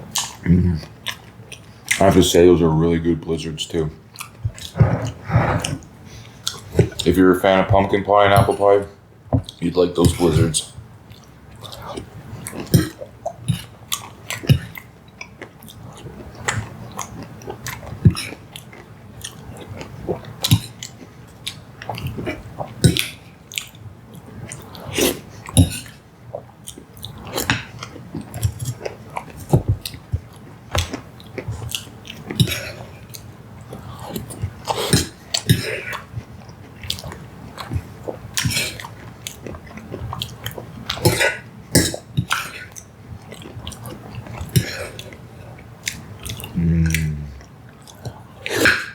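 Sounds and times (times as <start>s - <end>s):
chewing and wet mouth smacks: 0.1s - 2.2s, 4.1s - 7.2s, 11.1s - 48.9s.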